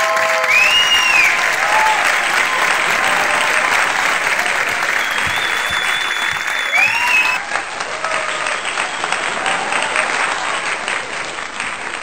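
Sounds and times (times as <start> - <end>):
shouts of cheering: 0.0 - 11.1
audience applauding: 0.0 - 12.0.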